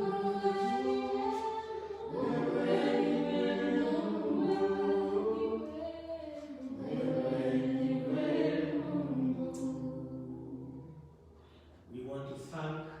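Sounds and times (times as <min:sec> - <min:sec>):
group singing together: 0:00.0 - 0:11.7.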